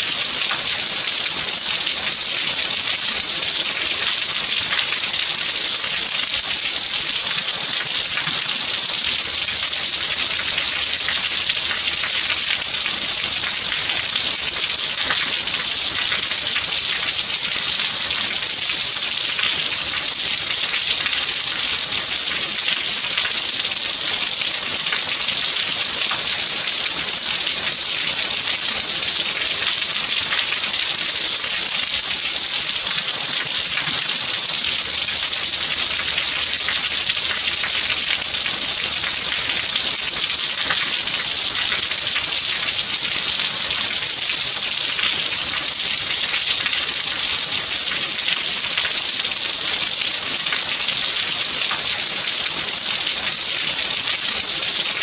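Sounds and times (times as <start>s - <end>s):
raindrops pattering: 0.0s - 49.2s
steady rain hiss: 0.0s - 52.4s.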